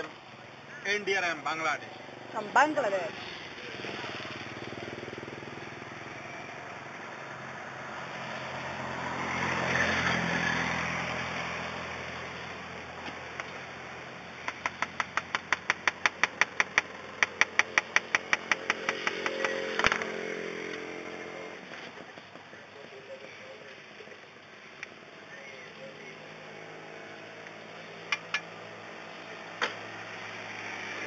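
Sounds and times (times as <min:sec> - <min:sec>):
motorbike passing: 0:00.0 - 0:31.0.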